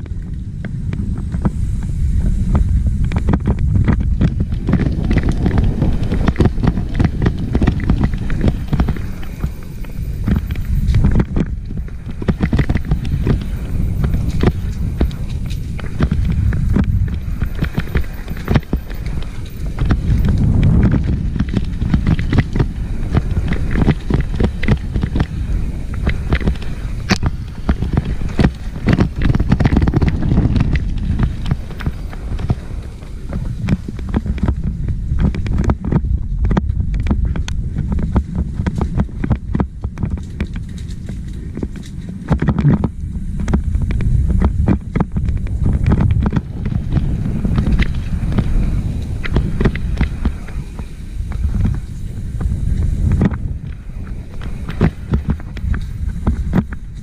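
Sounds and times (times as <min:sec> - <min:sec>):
wind rumble on microphone: 0:00.0 - 0:57.0
bike knocking over rocks: 0:02.4 - 0:57.0.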